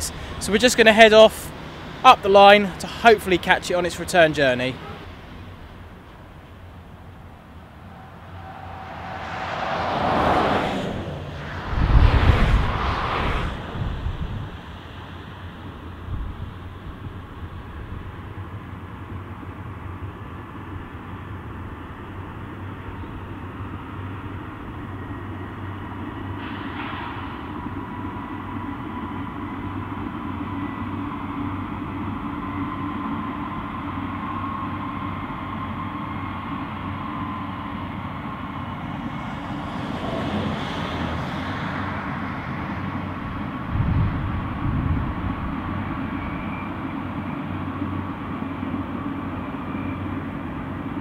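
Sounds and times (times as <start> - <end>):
distant train rumble: 0.0 - 51.0
faint engine whine: 0.0 - 51.0.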